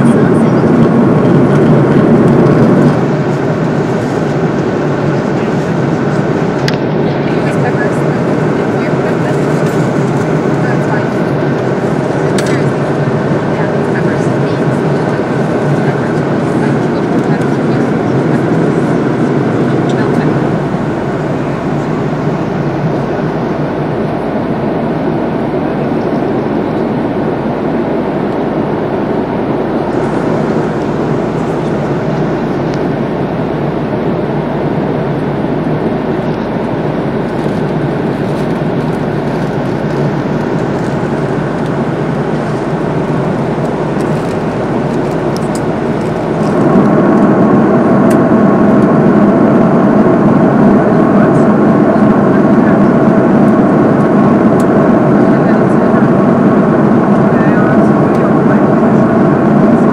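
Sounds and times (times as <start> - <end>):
aircraft cabin engine roar: 0.0 - 59.9.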